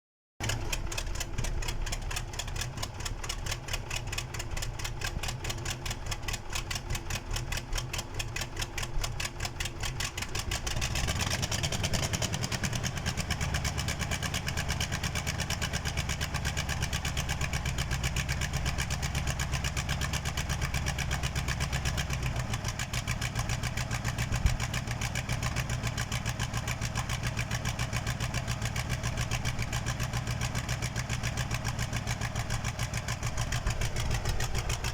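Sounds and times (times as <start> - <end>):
diesel engine starting and idling: 0.4 - 34.9
short engine knock: 0.4 - 34.9.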